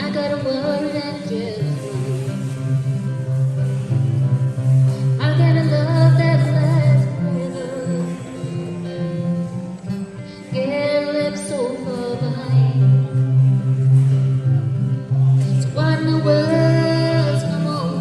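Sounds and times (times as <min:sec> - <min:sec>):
acoustic guitar: 0:00.0 - 0:18.0
person singing folk song: 0:00.0 - 0:18.0.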